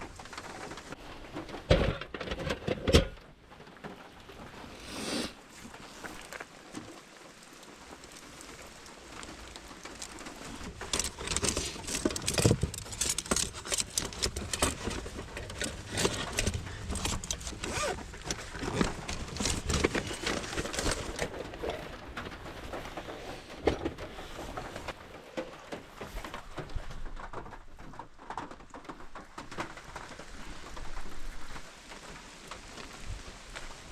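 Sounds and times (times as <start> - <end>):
camping gear rustling and clicking: 0.0 - 33.9.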